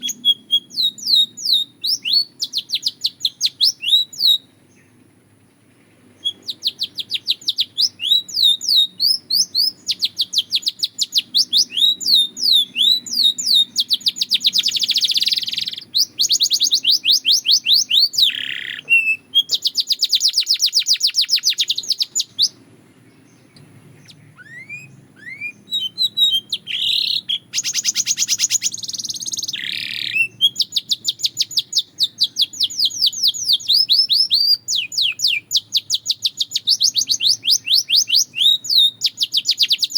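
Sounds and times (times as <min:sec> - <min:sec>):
canary trilling: 0:00.0 - 0:04.6, 0:06.0 - 0:22.6, 0:23.2 - 0:39.9
canary rising chirps: 0:00.0 - 0:39.9.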